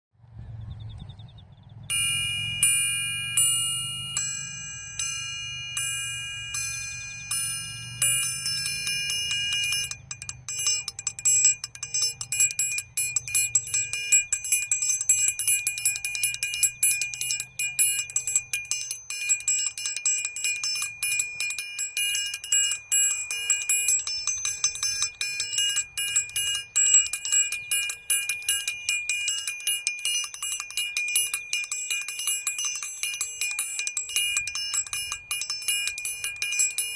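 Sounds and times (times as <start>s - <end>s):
small high-pitched bell ringing: 1.9s - 36.9s.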